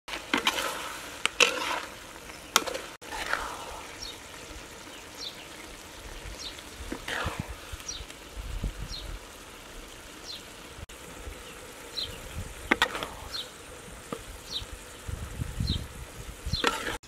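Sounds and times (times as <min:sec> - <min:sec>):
stir-fry sizzling in a wok: 0:00.1 - 0:17.0.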